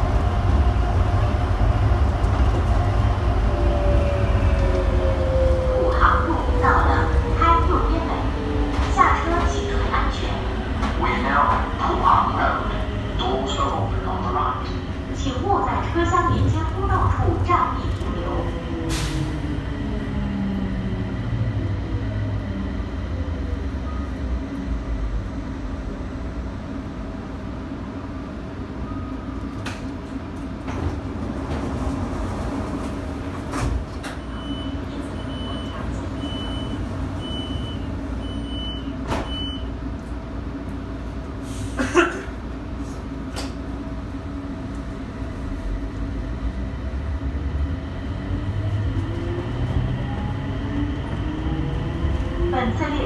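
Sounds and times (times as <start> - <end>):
train rolling noise: 0.0 - 53.0.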